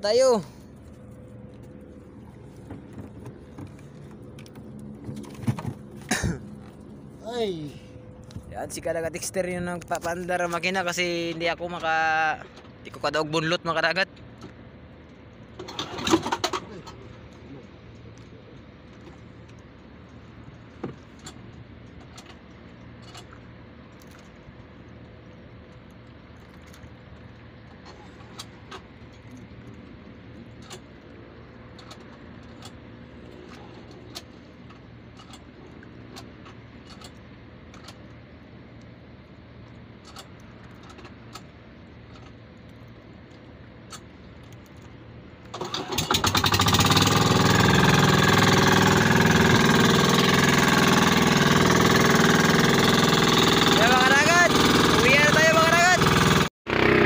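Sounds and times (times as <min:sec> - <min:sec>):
boat engine starting and running: 0:00.0 - 0:38.1, 0:43.8 - 0:57.0.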